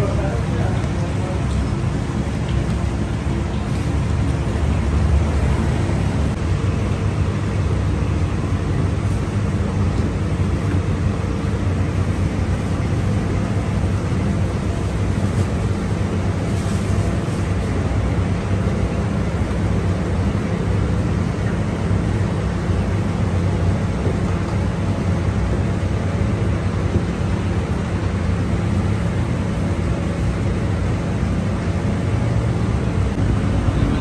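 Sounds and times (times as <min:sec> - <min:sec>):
machinery rumble and hum: 0:00.0 - 0:34.0.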